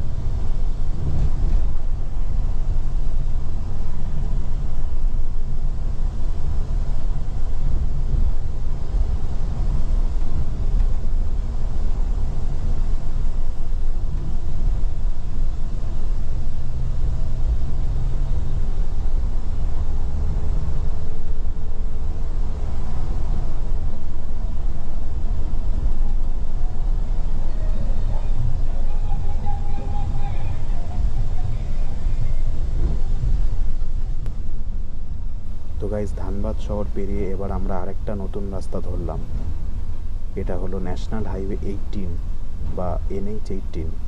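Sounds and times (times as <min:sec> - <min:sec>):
coach engine and road rumble: 0:00.0 - 0:44.0.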